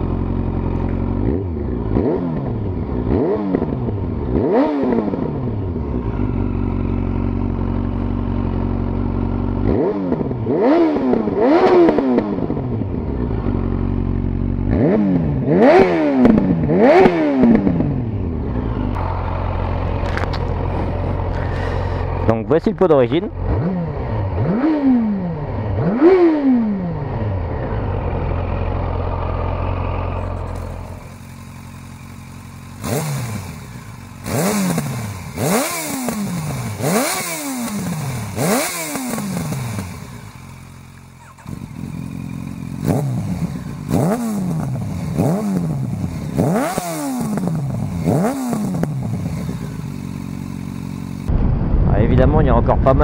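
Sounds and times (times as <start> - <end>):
motorcycle engine throttle blips: 0.0 - 53.0.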